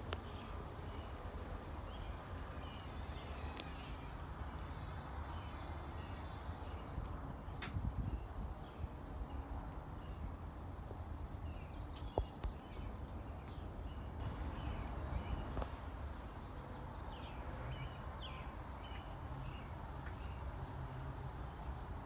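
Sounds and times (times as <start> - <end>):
light rain: 0.0 - 22.0
small birds chirping: 0.0 - 22.0.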